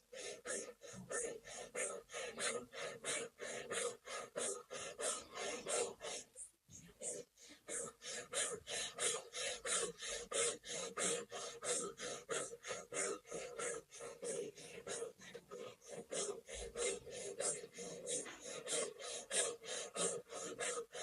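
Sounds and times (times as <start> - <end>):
person breathing rapidly and forcefully: 0.0 - 21.0.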